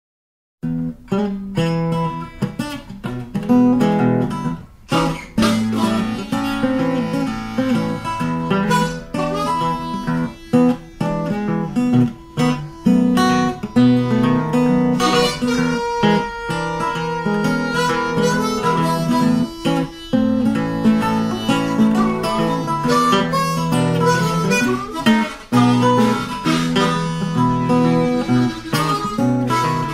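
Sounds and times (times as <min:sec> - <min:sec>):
acoustic guitar music: 0:00.6 - 0:29.9
harmonica: 0:03.9 - 0:29.9.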